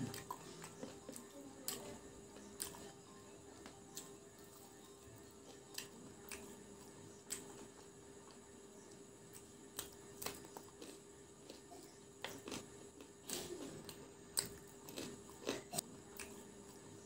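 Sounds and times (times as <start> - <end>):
crunching and chewing fried food: 0.0 - 17.0
faint steady hum: 0.0 - 17.0.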